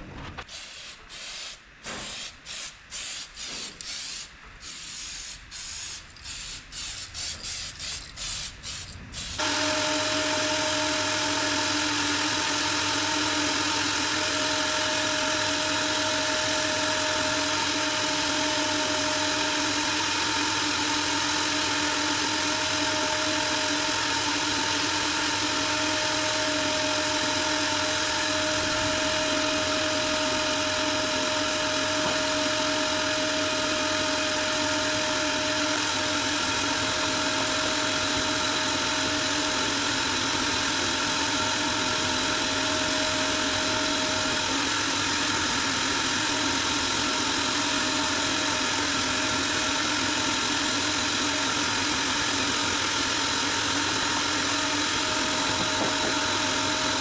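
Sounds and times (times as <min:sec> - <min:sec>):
power sander whirring: 0:09.2 - 0:57.0.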